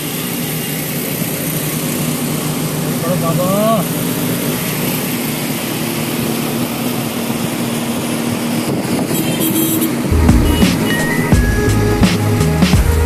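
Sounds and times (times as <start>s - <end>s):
car engine hum and road noise: 0.0s - 13.0s.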